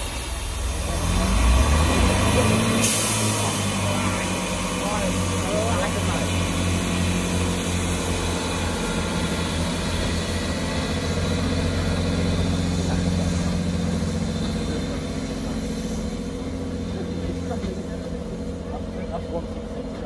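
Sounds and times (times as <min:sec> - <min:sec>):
diesel train engines droning: 0:00.0 - 0:20.0.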